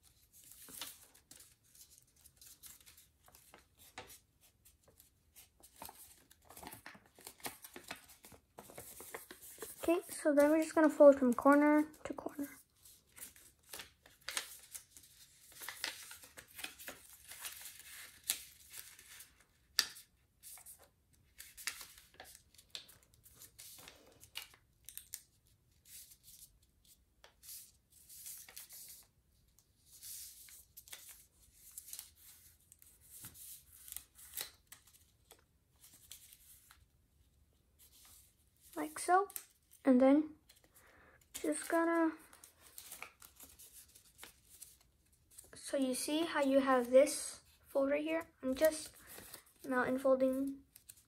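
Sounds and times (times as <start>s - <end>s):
paper rustling and crinkling: 0.0s - 36.9s, 37.6s - 39.8s, 40.4s - 45.6s, 48.2s - 51.0s.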